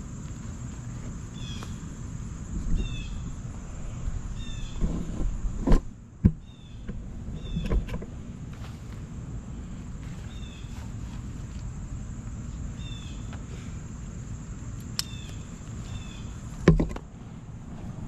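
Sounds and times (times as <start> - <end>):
high insect hiss: 0.0 - 18.0.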